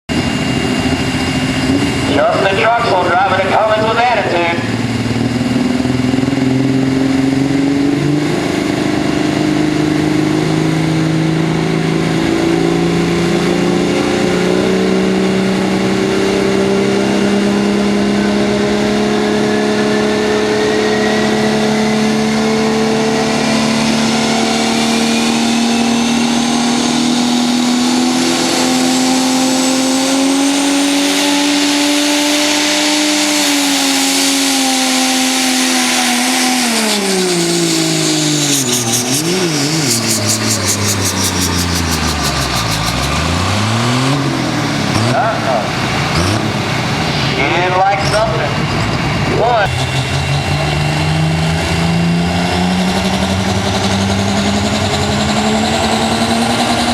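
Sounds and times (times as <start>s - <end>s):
diesel engine running hard: 0.0s - 56.9s
high whine: 0.1s - 56.9s.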